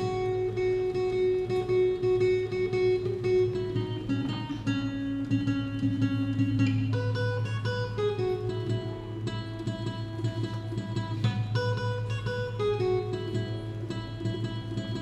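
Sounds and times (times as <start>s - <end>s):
acoustic guitar notes picked: 0.0s - 15.0s.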